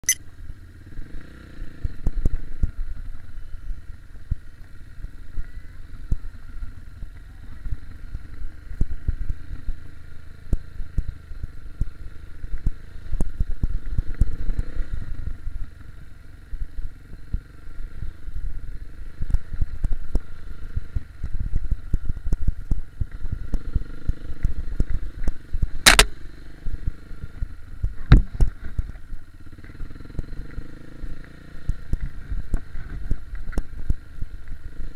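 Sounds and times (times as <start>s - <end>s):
dirt bike engine: 0.0s - 34.9s.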